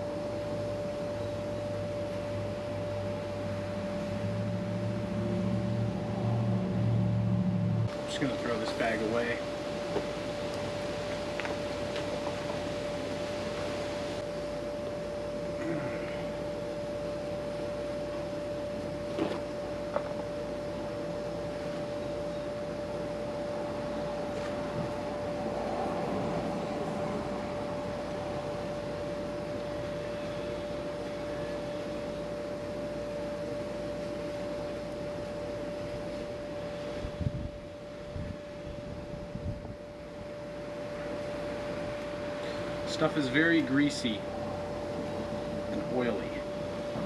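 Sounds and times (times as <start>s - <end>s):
high whine: 0.0s - 47.0s
machine hum: 0.0s - 47.0s.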